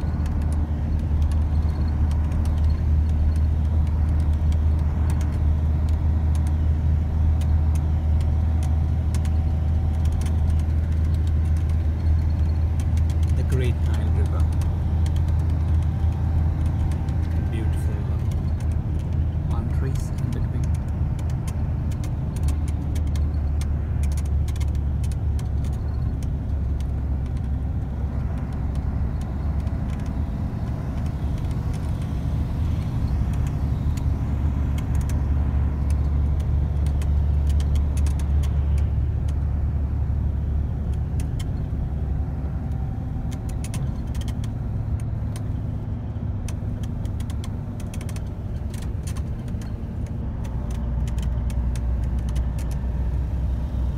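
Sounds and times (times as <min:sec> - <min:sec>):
light rattles and clicks: 0:00.0 - 0:53.9
train rumbling inside carriage: 0:00.0 - 0:53.9.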